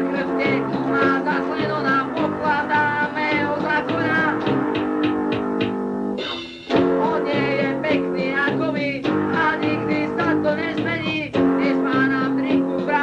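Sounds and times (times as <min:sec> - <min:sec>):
sung vocals: 0:00.0 - 0:04.6, 0:06.2 - 0:13.0
punk band playing: 0:00.0 - 0:13.0.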